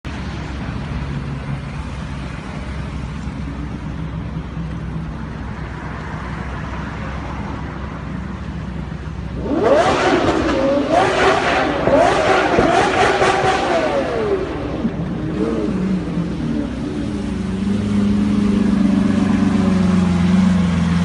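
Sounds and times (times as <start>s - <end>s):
car engine running steadily: 0.0s - 21.0s.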